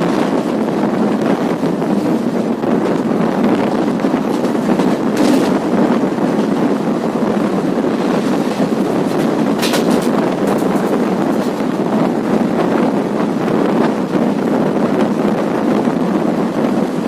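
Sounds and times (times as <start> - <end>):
train clatter: 0.0 - 15.6
train wheels rumbling on rail: 0.0 - 17.0
wind buffeting microphone: 0.0 - 17.0.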